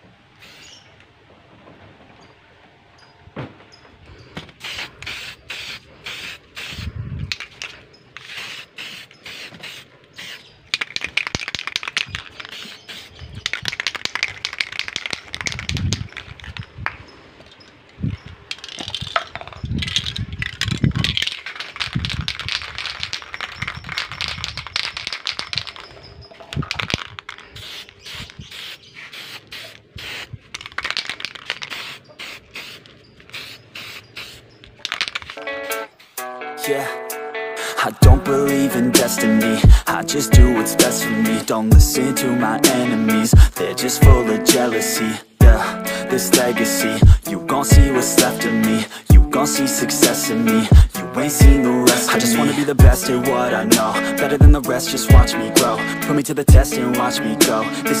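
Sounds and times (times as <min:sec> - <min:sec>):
spray paint can hissing: 0:00.4 - 0:00.9, 0:04.2 - 0:17.0, 0:18.4 - 0:36.3, 0:38.0 - 0:58.0.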